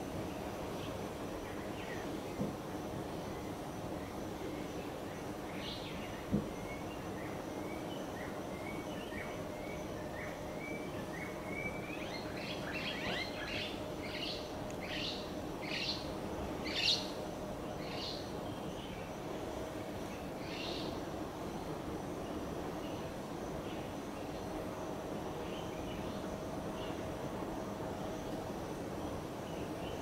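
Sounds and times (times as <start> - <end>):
outdoor background: 0.0 - 30.0.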